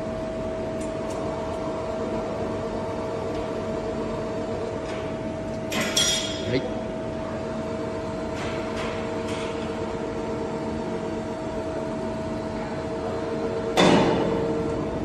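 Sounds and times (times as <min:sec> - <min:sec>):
milling machine hum: 0:00.0 - 0:15.0.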